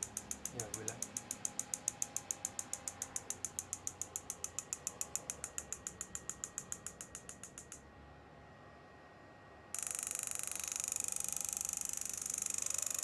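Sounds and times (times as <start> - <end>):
rapid high-pitched ticking: 0.0 - 7.8, 9.8 - 13.0.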